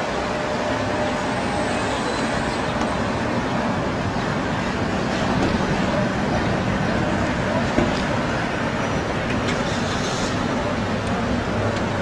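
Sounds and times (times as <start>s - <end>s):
low road rumble: 0.0s - 12.0s
vehicle engines running: 0.0s - 12.0s.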